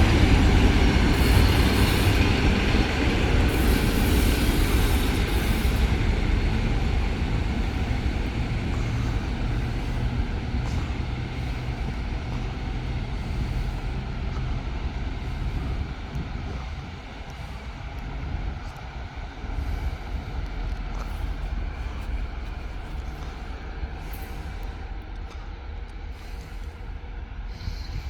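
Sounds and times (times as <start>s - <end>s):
diesel locomotive engine rumbling: 0.0s - 28.0s.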